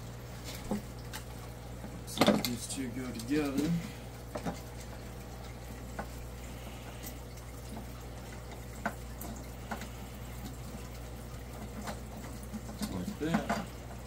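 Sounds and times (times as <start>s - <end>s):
low background hum and hiss: 0.0s - 14.0s.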